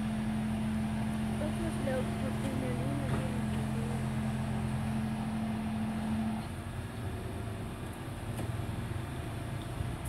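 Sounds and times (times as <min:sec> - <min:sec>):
diesel engine hum: 0:00.0 - 0:10.0
low engine rumble: 0:00.0 - 0:10.0.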